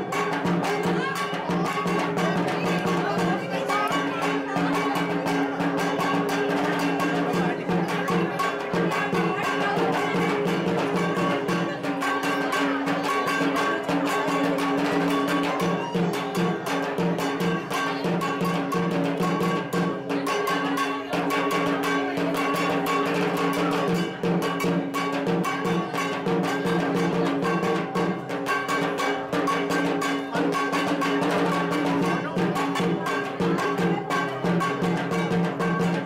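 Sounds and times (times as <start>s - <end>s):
fast drumming: 0.0s - 36.0s.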